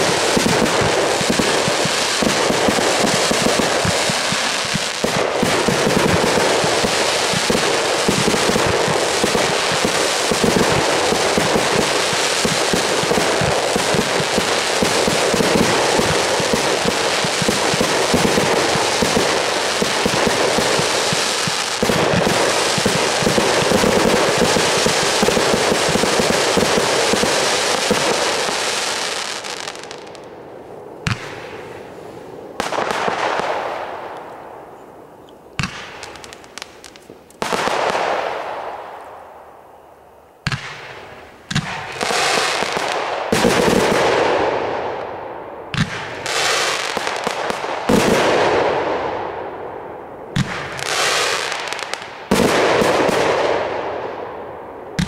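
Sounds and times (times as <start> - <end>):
fireworks bursting: 0.0 - 39.4, 40.4 - 45.1, 45.7 - 55.0.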